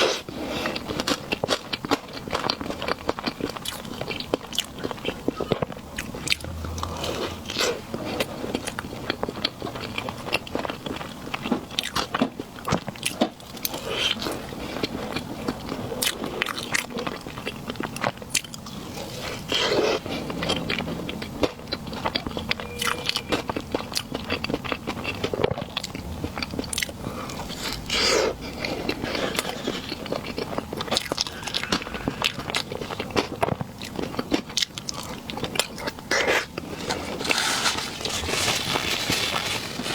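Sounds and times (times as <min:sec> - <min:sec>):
chewing dessert: 0:00.0 - 0:39.9.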